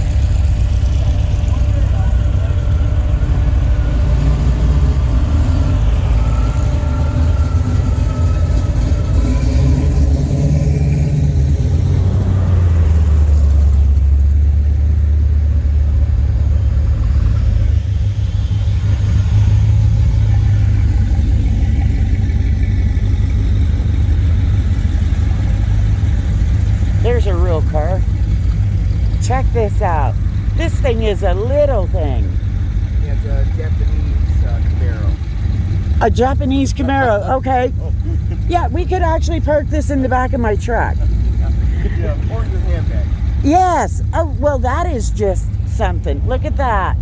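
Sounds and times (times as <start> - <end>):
car engines driving past: 0.0 - 47.0.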